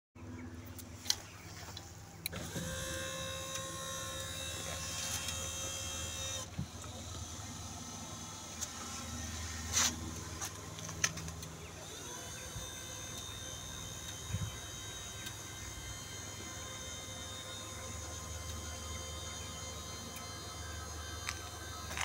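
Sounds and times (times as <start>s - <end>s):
electric seat motor running: 2.2s - 22.0s.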